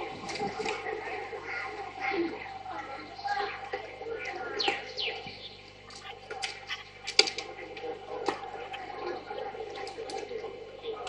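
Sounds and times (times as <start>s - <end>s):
kittens mewing: 1.4s - 11.0s.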